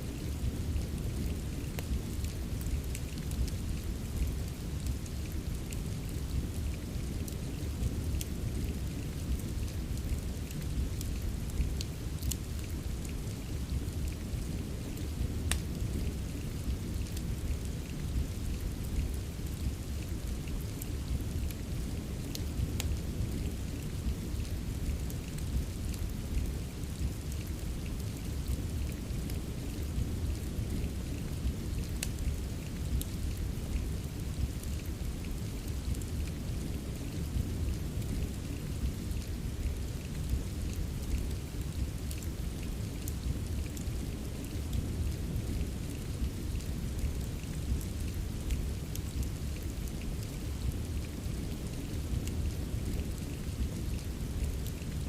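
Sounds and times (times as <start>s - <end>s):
steady rain: 0.0s - 55.0s
wood fire crackling: 0.1s - 55.0s.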